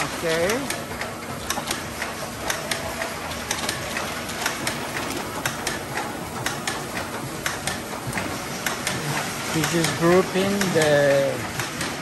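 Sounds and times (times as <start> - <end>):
capping machine running: 0.0 - 12.0.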